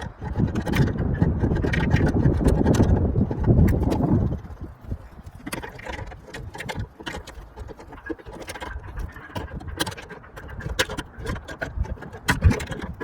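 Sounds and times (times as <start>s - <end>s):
tools clicking and knocking: 0.0s - 13.0s.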